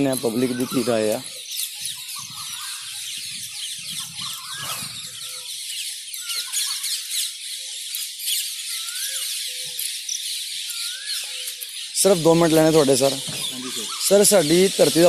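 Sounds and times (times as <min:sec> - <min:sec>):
low whistled bird notes: 0:00.0 - 0:07.4, 0:08.4 - 0:15.0
birds chirping chorus: 0:00.0 - 0:15.0.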